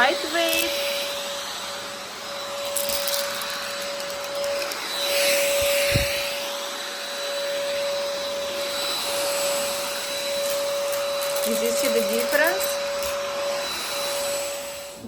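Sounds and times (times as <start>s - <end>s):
vacuum cleaner motor whine: 0.0s - 15.0s.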